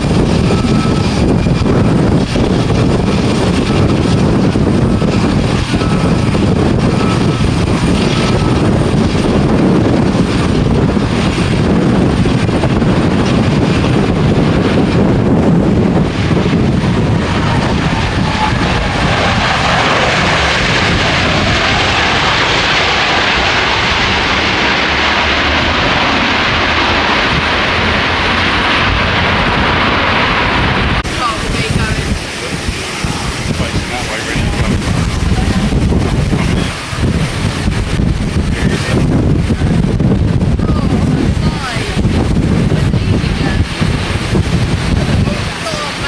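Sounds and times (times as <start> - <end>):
jet airliner engines passing: 0.0 - 46.0.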